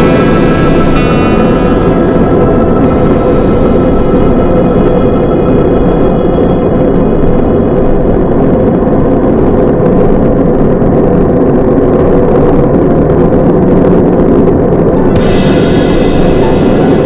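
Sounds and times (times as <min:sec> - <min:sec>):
road noise inside cab: 0:00.0 - 0:17.0
truck engine drone: 0:00.0 - 0:17.0.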